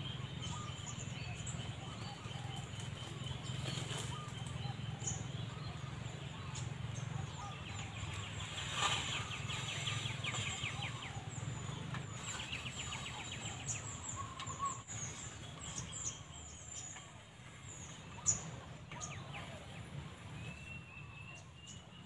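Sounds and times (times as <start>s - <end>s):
bird trill: 0.0s - 22.0s
small birds chirping: 0.0s - 22.0s.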